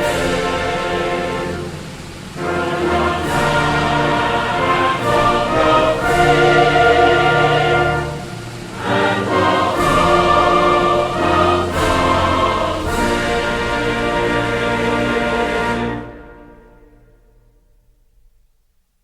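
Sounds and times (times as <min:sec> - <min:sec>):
orchestral music with choir: 0:00.0 - 0:17.9.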